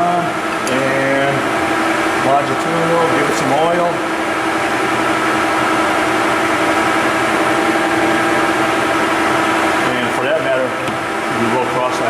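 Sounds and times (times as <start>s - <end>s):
lathe running with gear tone: 0.0s - 12.0s.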